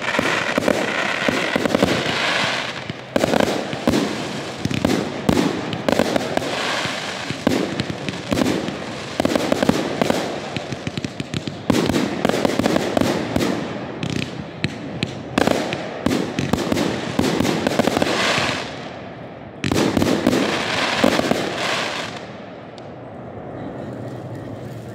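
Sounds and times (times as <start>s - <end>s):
firework cake firing shots: 0.0s - 18.8s, 19.6s - 21.7s
firework aerial bursts: 0.0s - 19.0s, 19.6s - 22.5s.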